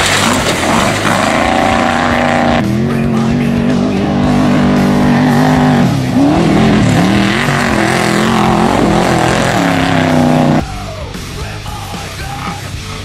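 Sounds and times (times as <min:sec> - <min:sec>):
truck engine revving: 0:00.0 - 0:10.6.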